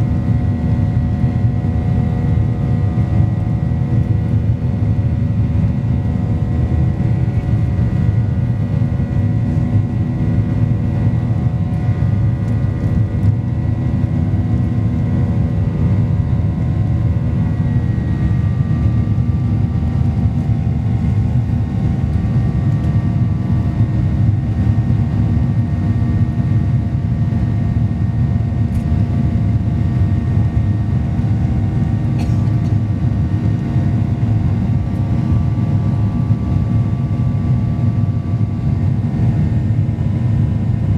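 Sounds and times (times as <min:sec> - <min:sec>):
jet engines running steadily: 0:00.0 - 0:40.9.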